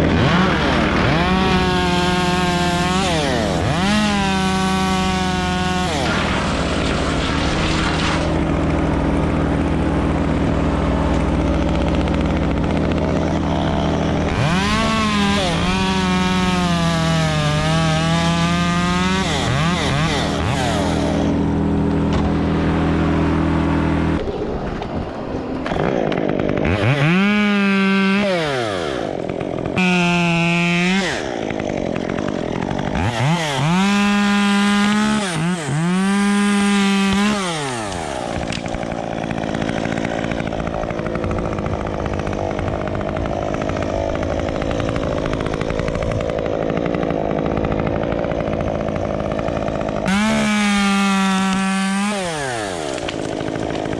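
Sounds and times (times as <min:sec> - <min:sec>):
chainsaw revving: 0:00.0 - 0:24.6, 0:25.6 - 0:53.9.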